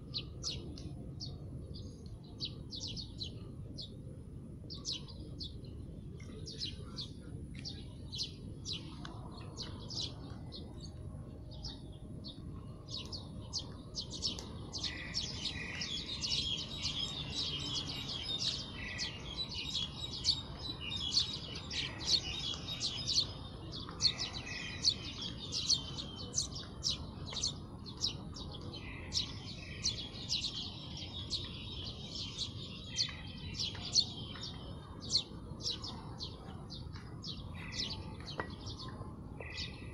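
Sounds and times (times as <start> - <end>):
low background rumble: 0.0 - 39.9
small birds chirping: 0.0 - 39.9.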